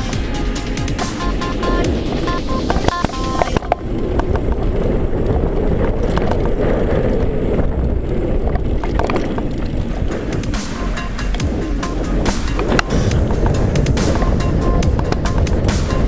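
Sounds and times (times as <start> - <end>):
bike tyres rumbling on dirt: 0.0 - 16.0
wind on microphone: 0.0 - 16.0
bike clattering over bumps: 2.8 - 16.0.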